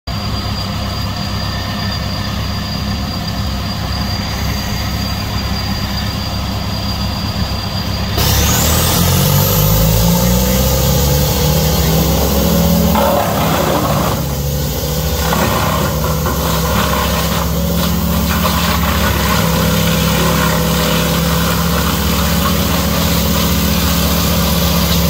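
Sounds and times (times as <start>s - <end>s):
wood chipper engine running: 0.1s - 25.0s.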